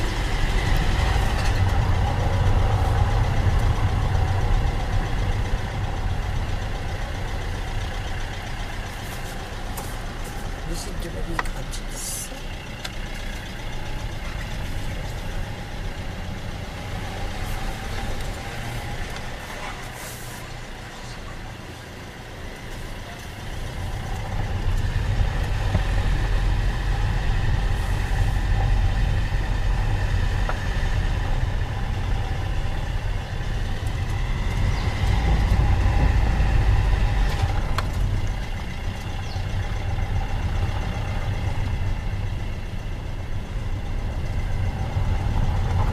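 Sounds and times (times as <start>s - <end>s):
car engine and tyres rumbling: 0.0s - 45.9s.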